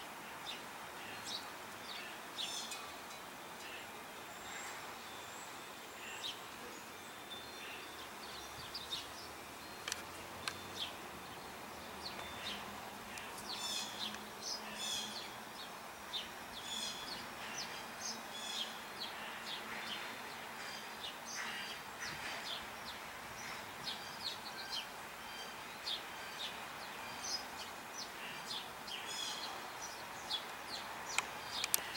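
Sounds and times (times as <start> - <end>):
outdoor background hum: 0.0 - 31.9
small birds chirping: 0.3 - 31.9.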